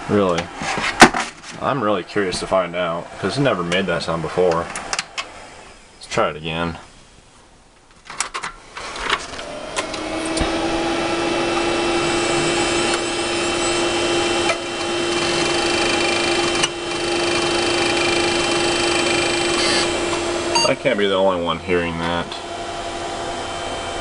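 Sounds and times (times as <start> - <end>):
fans and hard drive humming: 1.6 - 24.0.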